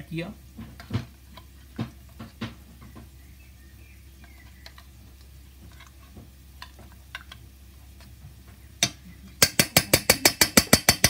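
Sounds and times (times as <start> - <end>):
onions frying with faint sizzle: 0.0 - 11.0.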